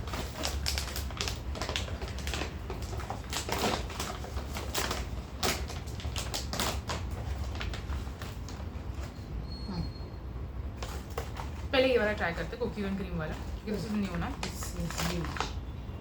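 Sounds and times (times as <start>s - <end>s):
plastic snack packets crinkling: 0.0s - 9.2s, 10.8s - 15.7s.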